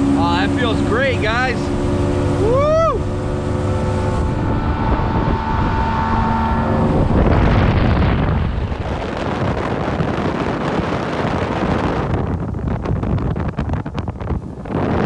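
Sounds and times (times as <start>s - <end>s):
outboard motor humming: 0.0s - 15.0s
rushing water: 0.0s - 15.0s
wind noise on microphone: 0.0s - 15.0s.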